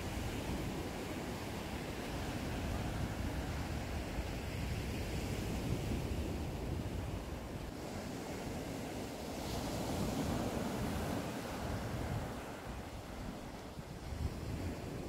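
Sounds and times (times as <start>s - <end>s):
surf washing up beach: 0.0s - 15.0s
wind rumbling on microphone: 0.0s - 15.0s.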